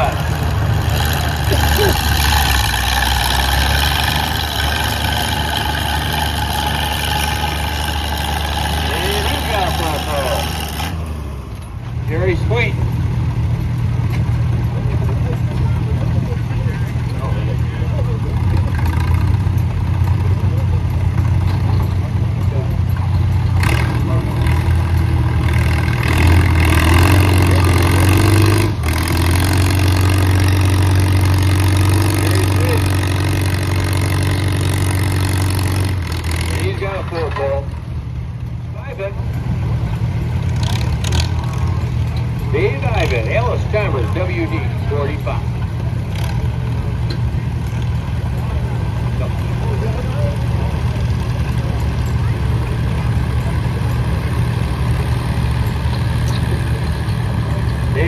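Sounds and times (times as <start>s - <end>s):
tractor engine running under load: 0.0s - 58.0s.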